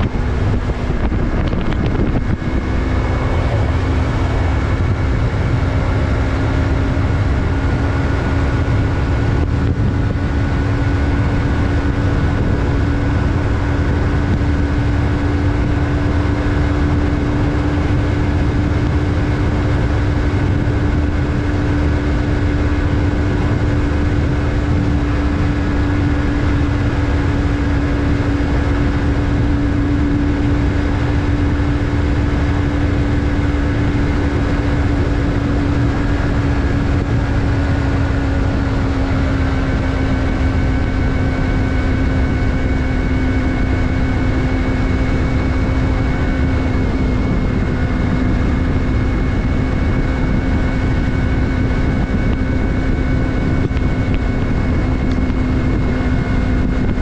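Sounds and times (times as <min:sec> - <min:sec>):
heavy low rumble: 0:00.0 - 0:57.0
motorcycle engine cruising: 0:00.0 - 0:57.0.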